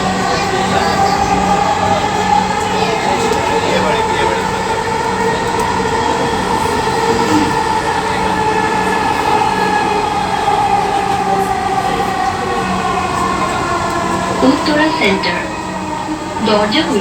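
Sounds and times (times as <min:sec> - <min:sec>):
electric train whine: 0:00.0 - 0:17.0
wheels rumbling on track: 0:00.0 - 0:17.0.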